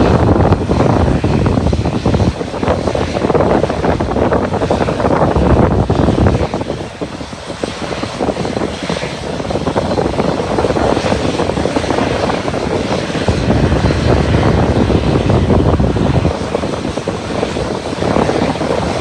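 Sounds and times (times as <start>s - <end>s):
airplane engine running: 0.0s - 19.0s
wind buffeting microphone: 0.0s - 19.0s.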